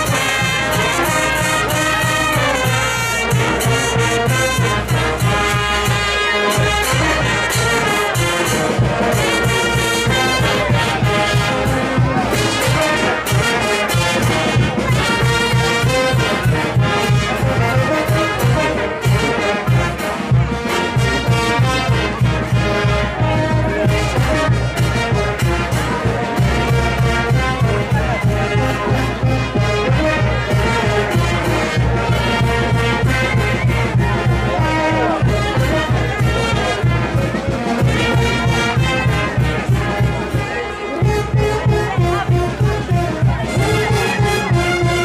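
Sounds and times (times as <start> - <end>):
brass band playing dance music: 0.0 - 45.0.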